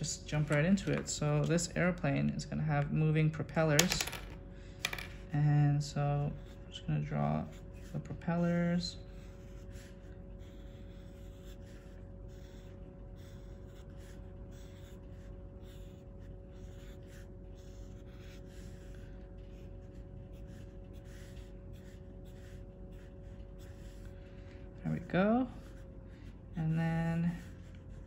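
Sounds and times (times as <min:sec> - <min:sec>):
faint steady hum: 0:00.0 - 0:28.0
marker pen scratching on paper: 0:04.9 - 0:28.0.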